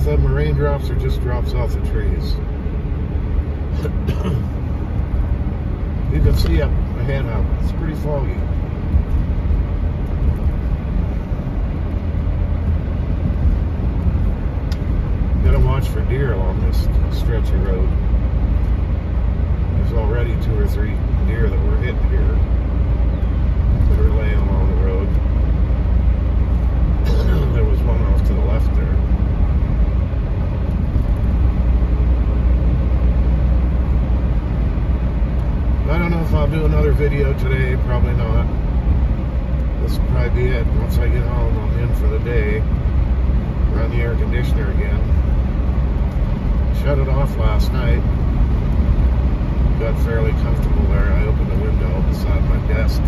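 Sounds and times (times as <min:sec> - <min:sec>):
car interior road rumble: 0:00.0 - 0:53.0.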